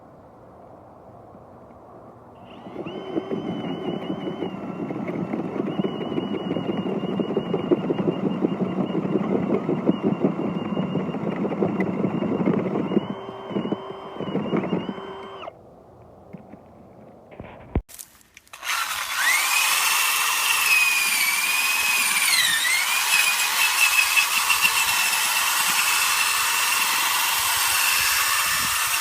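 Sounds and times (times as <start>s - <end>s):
auger grinding soil: 2.4s - 15.6s, 16.5s - 29.0s
power drill motor whine: 2.4s - 15.6s, 18.5s - 29.0s.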